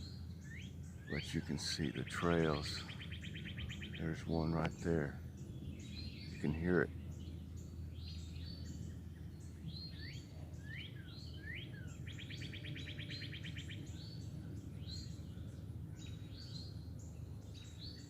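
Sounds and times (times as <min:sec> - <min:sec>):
songbirds chirping and singing: 0:00.0 - 0:18.0
steady low rumble: 0:00.0 - 0:18.0.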